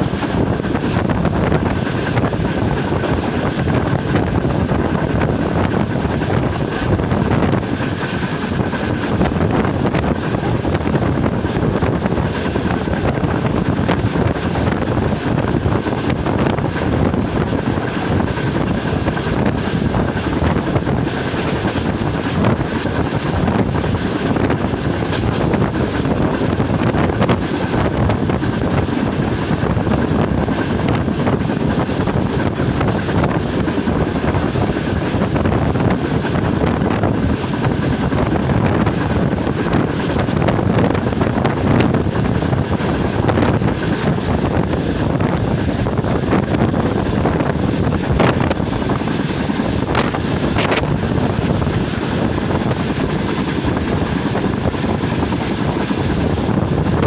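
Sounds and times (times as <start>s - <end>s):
train wheels rumbling on rails: 0.0s - 57.0s
wind buffeting microphone: 0.0s - 57.0s.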